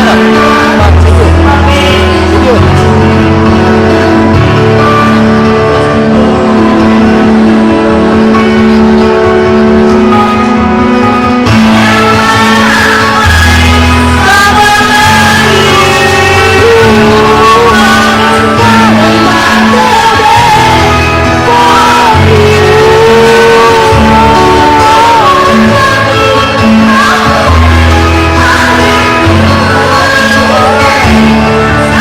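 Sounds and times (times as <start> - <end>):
person singing: 0.0 - 9.3, 11.5 - 32.0
pop backing track: 0.0 - 32.0.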